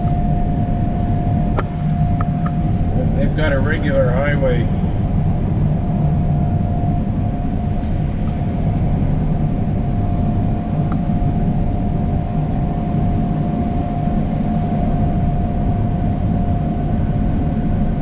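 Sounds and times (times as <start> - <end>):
combine harvester drone: 0.0 - 18.0
steady machine whine: 0.0 - 18.0.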